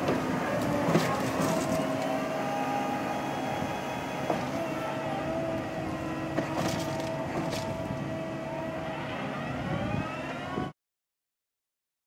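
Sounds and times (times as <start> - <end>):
engine running: 0.0 - 10.7
flail mower whine: 0.0 - 10.7.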